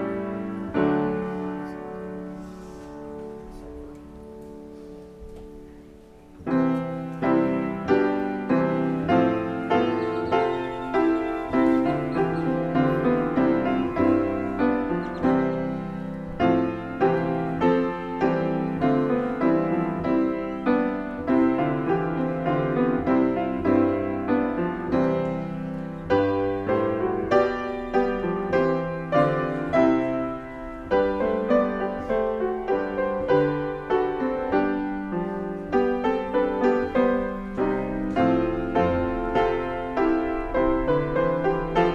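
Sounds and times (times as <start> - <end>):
solo piano music: 0.0 - 41.9.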